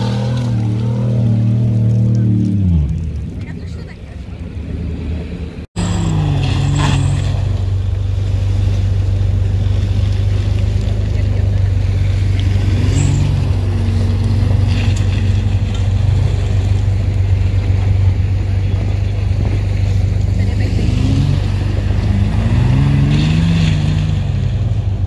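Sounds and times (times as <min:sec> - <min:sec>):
suv engine under load: 0:00.0 - 0:03.4, 0:04.4 - 0:25.0.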